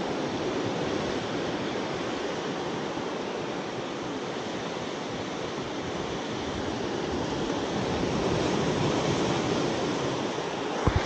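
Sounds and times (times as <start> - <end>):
sea surf rushing: 0.0 - 11.0
wind: 0.0 - 11.0.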